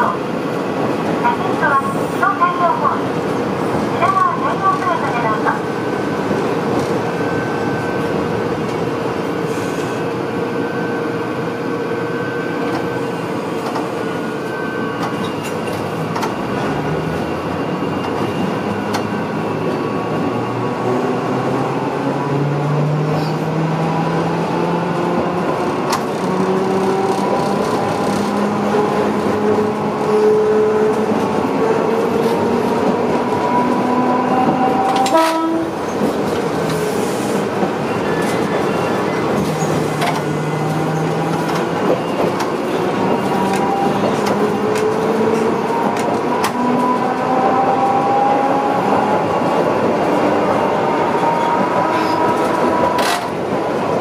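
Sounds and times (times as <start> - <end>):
tram wheels rumbling on rail: 0.0 - 54.0.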